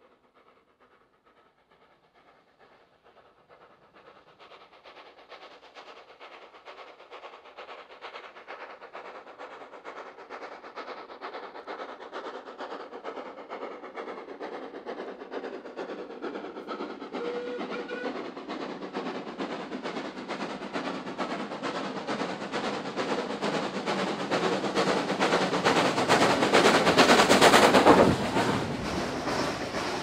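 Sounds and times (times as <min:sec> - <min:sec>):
steam locomotive exhaust beats: 0:00.0 - 0:30.0.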